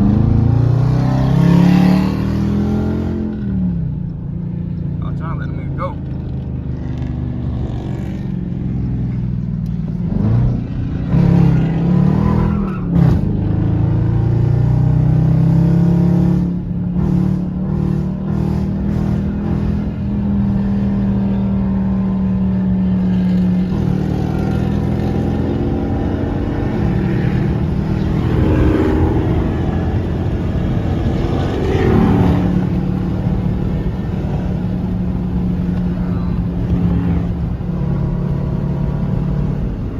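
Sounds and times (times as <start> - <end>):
car engine revving while driving: 0.0 - 5.0, 9.7 - 39.9.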